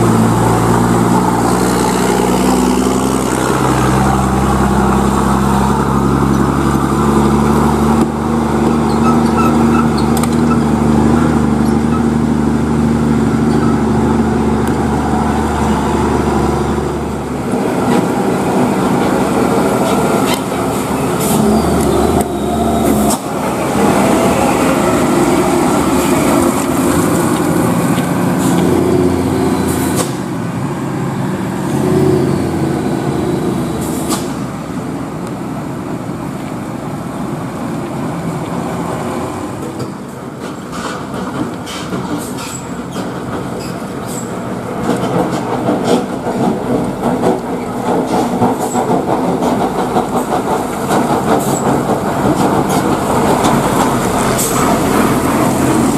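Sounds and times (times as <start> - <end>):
truck diesel engines passing: 0.0 - 55.9.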